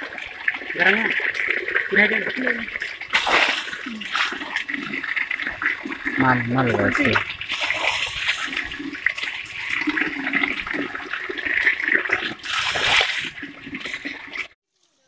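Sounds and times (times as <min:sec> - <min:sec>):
water gushing and splashing: 0:00.0 - 0:14.6.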